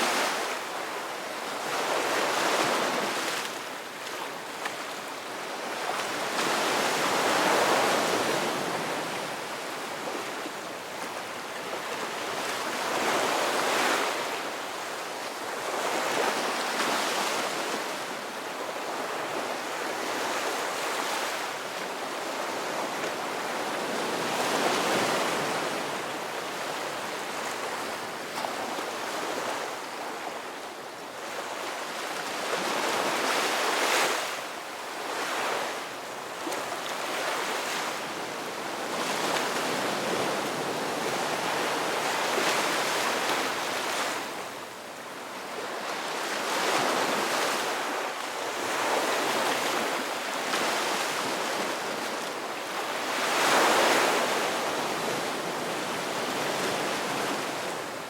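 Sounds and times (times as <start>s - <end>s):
waves washing in and breaking: 0.0s - 58.0s.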